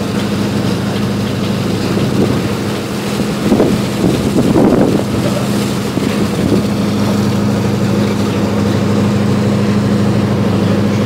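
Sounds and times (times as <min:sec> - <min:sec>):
ferry diesel engines droning: 0:00.0 - 0:11.0.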